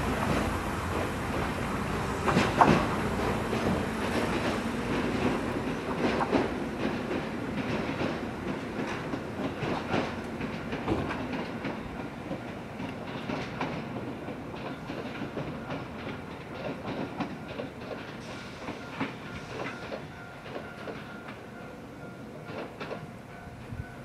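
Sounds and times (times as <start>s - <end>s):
train rumble: 0.0s - 24.0s
train wheels clacking over rail joints: 0.0s - 24.0s.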